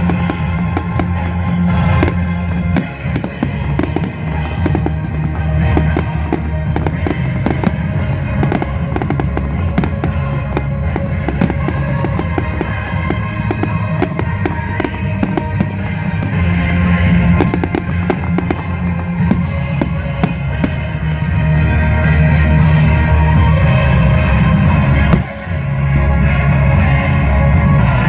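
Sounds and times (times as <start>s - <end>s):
fireworks bursting and crackling: 0.0s - 22.0s, 25.0s - 25.6s
music with heavy bass: 0.0s - 28.0s.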